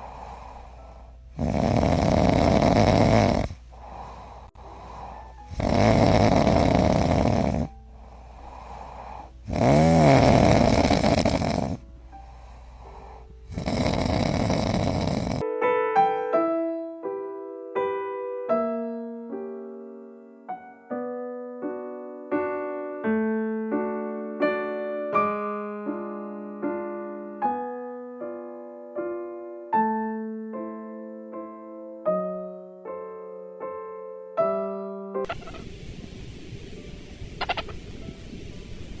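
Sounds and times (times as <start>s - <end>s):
gentle keyboard melody: 4.6s - 39.0s.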